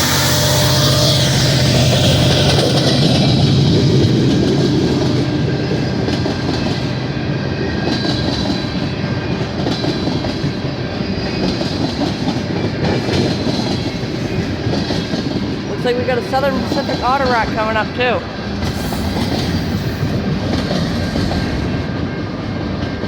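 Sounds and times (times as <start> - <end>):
freight train wheels on rail: 0.0 - 23.0.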